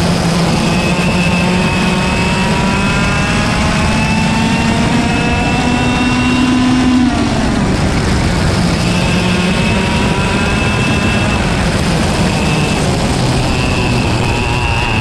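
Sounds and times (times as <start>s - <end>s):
kart engine at full throttle: 0.0s - 15.0s.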